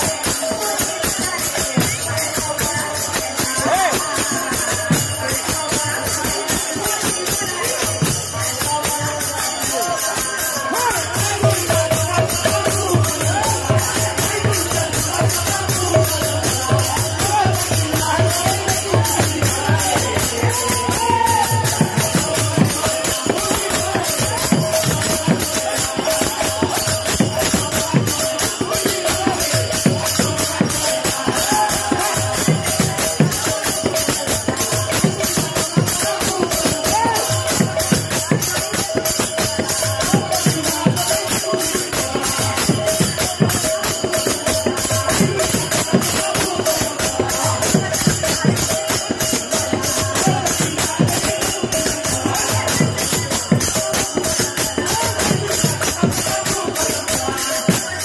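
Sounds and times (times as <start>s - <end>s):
hand cymbals jingling: 0.0s - 58.0s
voices singing: 0.0s - 58.0s.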